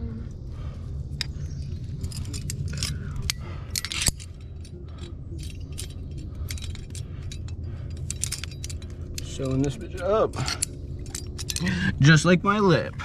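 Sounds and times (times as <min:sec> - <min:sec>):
low rumble: 0:00.0 - 0:13.0
climbing gear clinking: 0:00.8 - 0:13.0.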